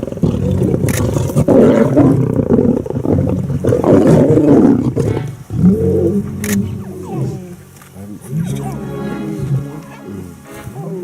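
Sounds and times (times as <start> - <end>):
lions growling: 0.0 - 11.0.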